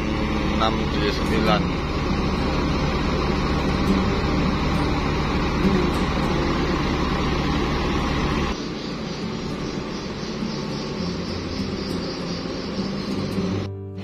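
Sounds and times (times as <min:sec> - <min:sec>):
diesel bus engine idling: 0:00.0 - 0:14.0
hum of idling buses: 0:00.0 - 0:14.0.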